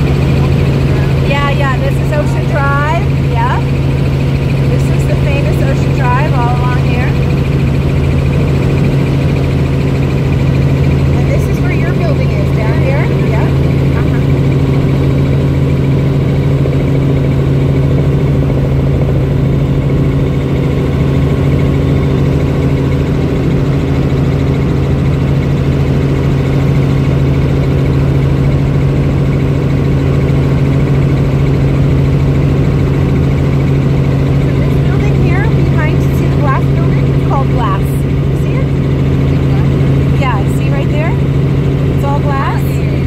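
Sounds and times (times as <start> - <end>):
helicopter drone from inside cabin: 0.0 - 43.0.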